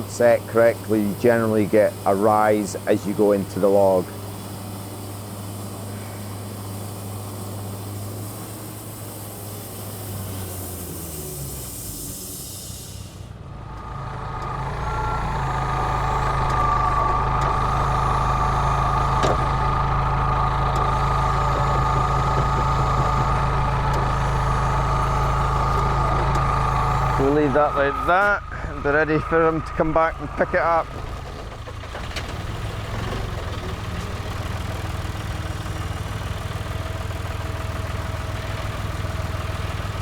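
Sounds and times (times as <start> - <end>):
heavy engine running: 0.0 - 40.0
machine hum winding down: 0.0 - 40.0.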